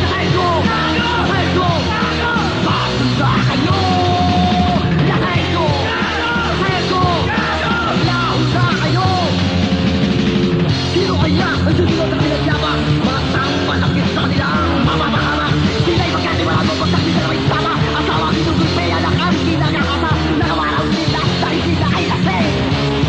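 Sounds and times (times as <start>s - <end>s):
punk rock song: 0.0s - 23.0s.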